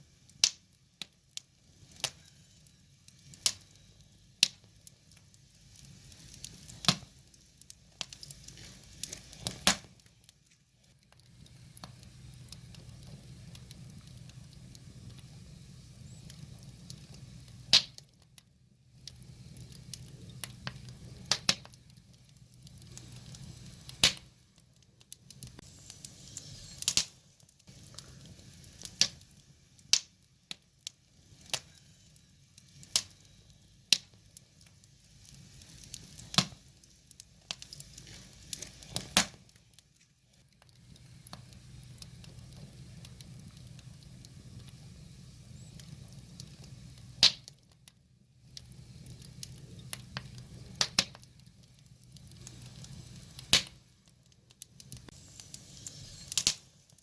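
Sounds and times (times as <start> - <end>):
low rumble of flames: 0.0 - 57.0
wood fire popping and snapping: 0.0 - 57.0.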